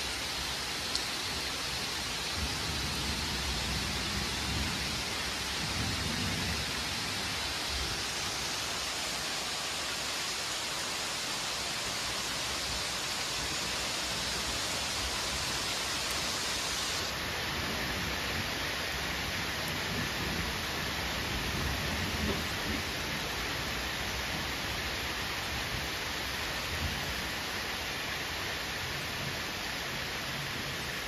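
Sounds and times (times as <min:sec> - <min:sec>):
heavy rain on trees: 0:00.0 - 0:31.0.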